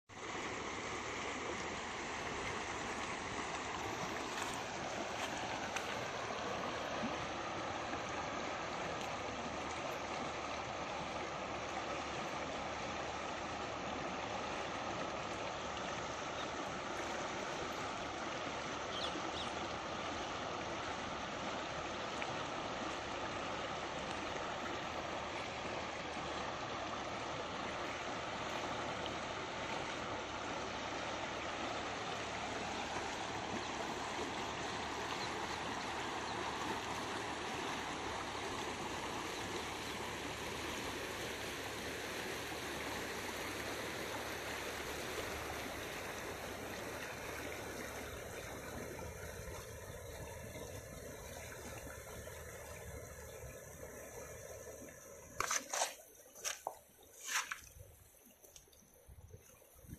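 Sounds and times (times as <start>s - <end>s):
river rushing over stones: 0.1s - 58.6s.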